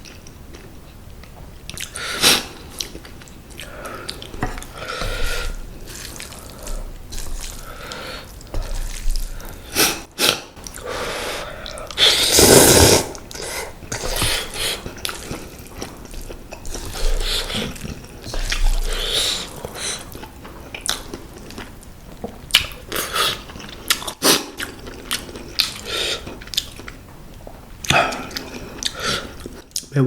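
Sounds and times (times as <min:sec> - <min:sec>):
wet chewing of noodles: 0:00.0 - 0:29.9.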